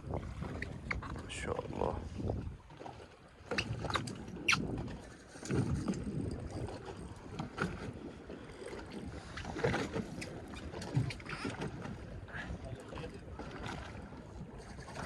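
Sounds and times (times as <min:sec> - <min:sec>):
low rumble of wind: 0:00.0 - 0:15.0
water: 0:00.0 - 0:15.0.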